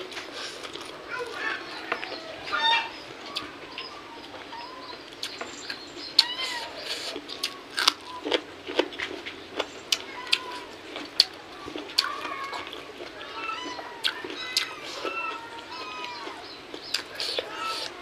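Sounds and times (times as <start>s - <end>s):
chewing and lip smacking: 0.0s - 2.4s, 3.3s - 18.0s.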